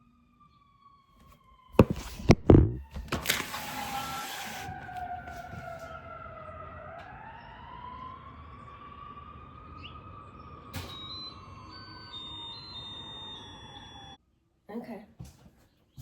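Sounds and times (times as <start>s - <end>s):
siren wailing: 0.0s - 14.2s.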